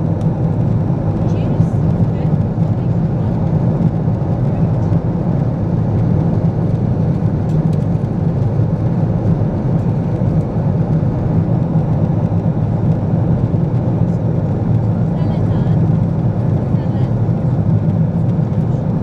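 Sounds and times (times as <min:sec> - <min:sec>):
airplane cabin engine noise: 0:00.0 - 0:19.0.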